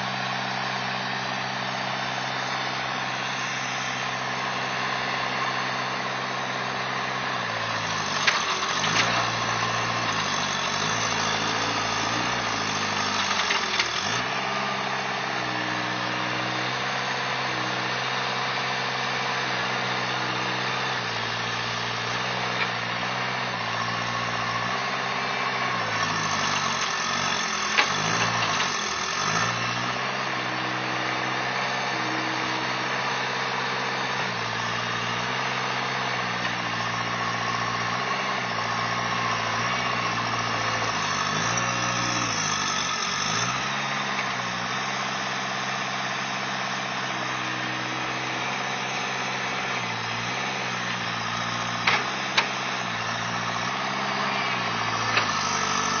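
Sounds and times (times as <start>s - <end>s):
loader engine running: 0.0s - 56.0s.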